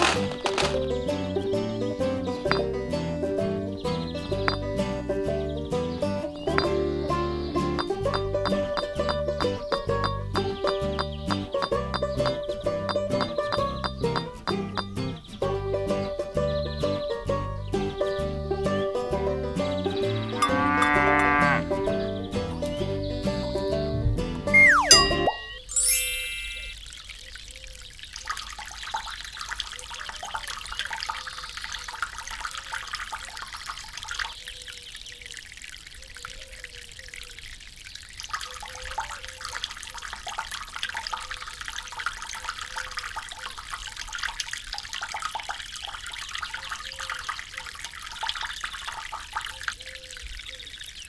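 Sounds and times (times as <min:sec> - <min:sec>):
stream trickling and splashing: 0:00.0 - 0:51.0.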